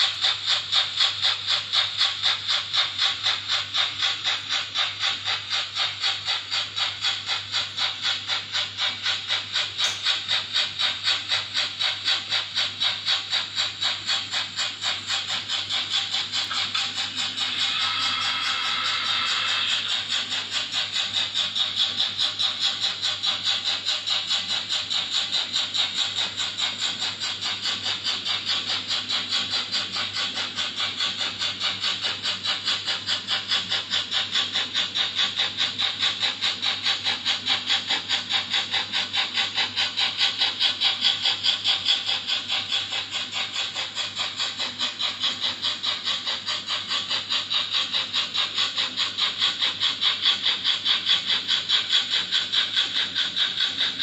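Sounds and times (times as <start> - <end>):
model train rhythmic hissing: 0.0 - 54.0.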